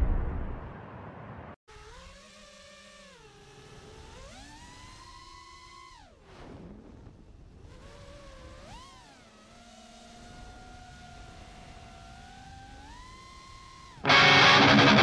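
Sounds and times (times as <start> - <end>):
quadcopter motors whining: 1.7 - 14.9.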